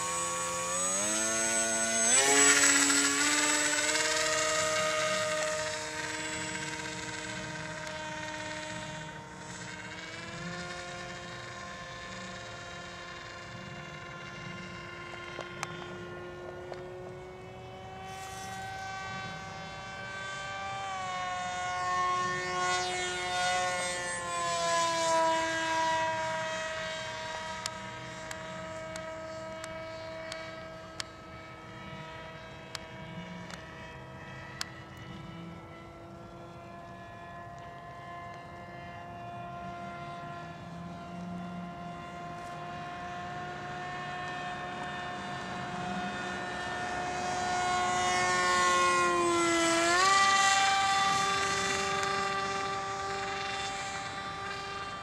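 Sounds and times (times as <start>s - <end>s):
model airplane motor whine: 0.0s - 55.0s.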